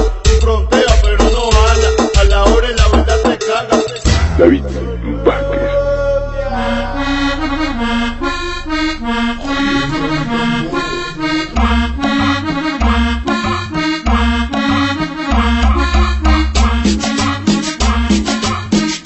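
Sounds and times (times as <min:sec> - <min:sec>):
accordion-like dance melody: 0:00.0 - 0:19.0
heavy pulsing bass beat: 0:00.0 - 0:19.0.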